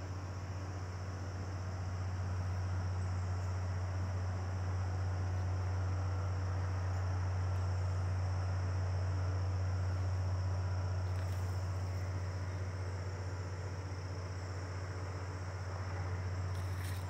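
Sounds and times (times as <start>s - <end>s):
constant low hum: 0.0s - 17.0s
crickets trilling: 0.0s - 17.0s.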